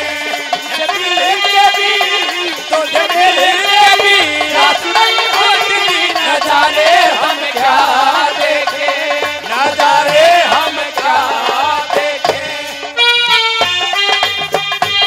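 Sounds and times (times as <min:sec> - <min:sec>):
drum beat: 0:00.0 - 0:15.0
sliding folk melody: 0:00.0 - 0:15.0.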